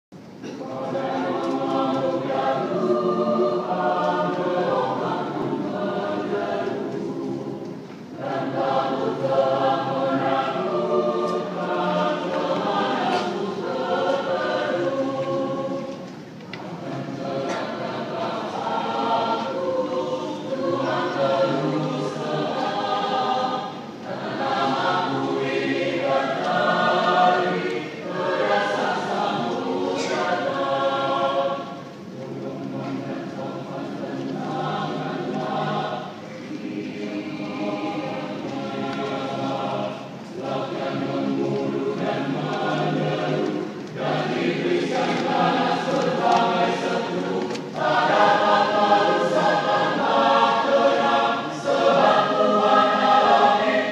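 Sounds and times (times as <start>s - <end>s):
church choir singing a hymn: 0.2s - 53.9s.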